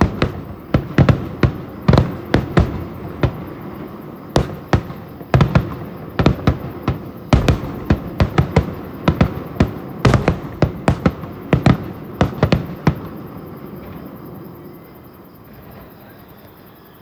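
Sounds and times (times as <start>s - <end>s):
fireworks bursting: 0.0s - 14.1s.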